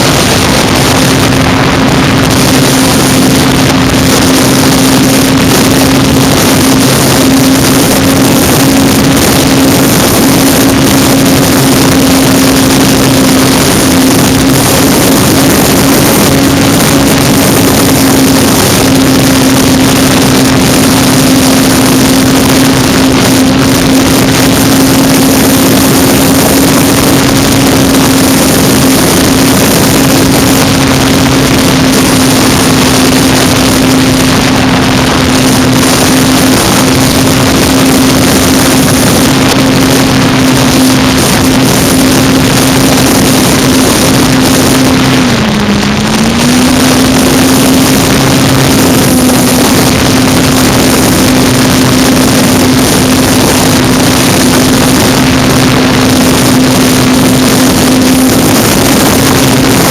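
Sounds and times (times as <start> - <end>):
rushing air noise: 0.0 - 59.9.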